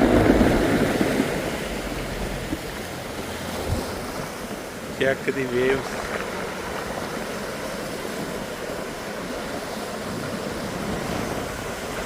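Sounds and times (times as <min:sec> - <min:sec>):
waves breaking: 0:00.0 - 0:12.0
wind on microphone: 0:00.0 - 0:12.0.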